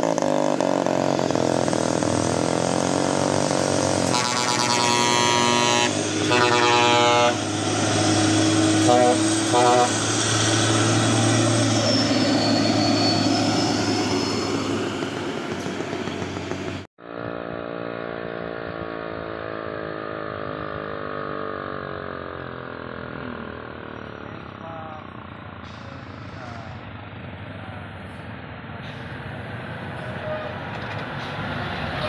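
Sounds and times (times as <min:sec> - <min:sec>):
truck diesel engine labouring: 0:00.0 - 0:16.9, 0:20.9 - 0:32.0
truck diesel engine passing: 0:00.0 - 0:32.0.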